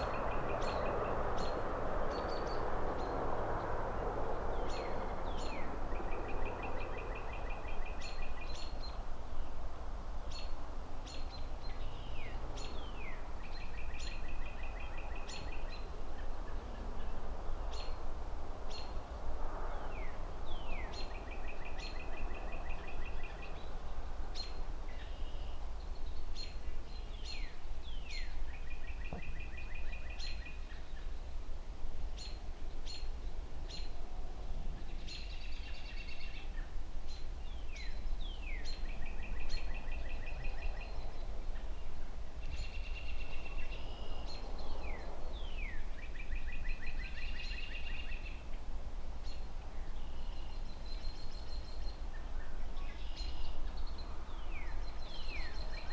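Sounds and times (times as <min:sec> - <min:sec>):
distant city traffic rumble: 0:00.0 - 0:55.9
songbirds chirping: 0:00.0 - 0:55.9.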